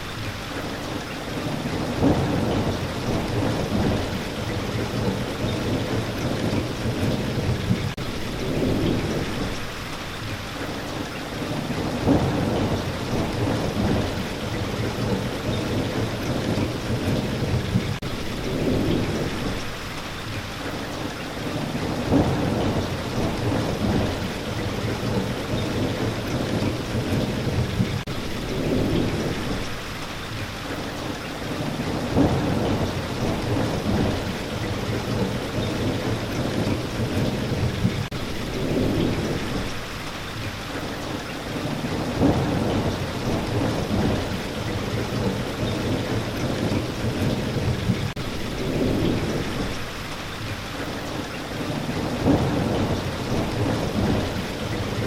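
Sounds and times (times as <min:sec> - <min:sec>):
thunder rumbling: 0:00.0 - 0:10.8, 0:11.4 - 0:20.3, 0:21.0 - 0:30.0, 0:30.7 - 0:55.0
heavy rainfall: 0:00.0 - 0:55.0.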